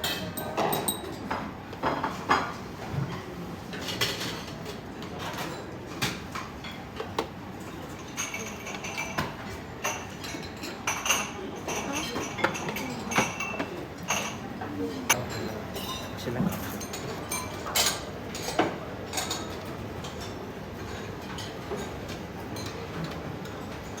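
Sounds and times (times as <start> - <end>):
dishes and cutlery clinking: 0.0 - 3.2, 3.8 - 24.0.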